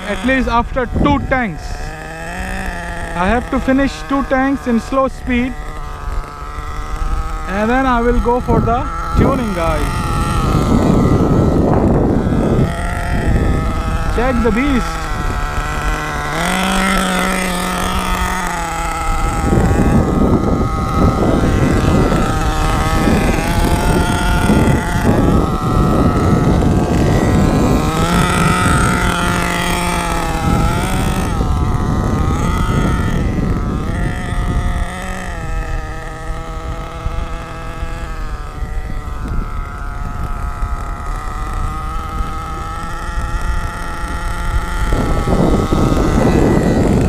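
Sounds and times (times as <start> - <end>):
small nitro engine running: 0.0 - 47.0.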